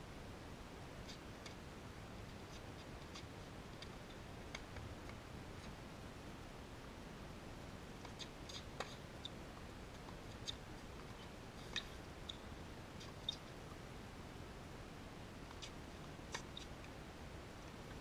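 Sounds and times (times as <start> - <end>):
outdoor air hiss: 0.0 - 18.0.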